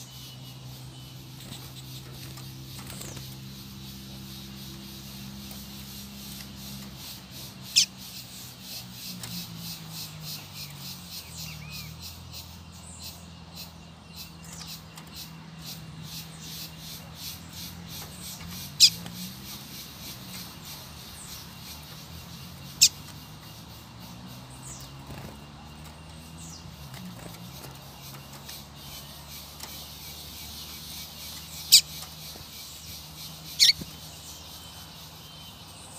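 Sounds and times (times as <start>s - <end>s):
rapid high ticking chirping: 0.0s - 35.9s
sharp downswept bird calls: 0.0s - 35.9s.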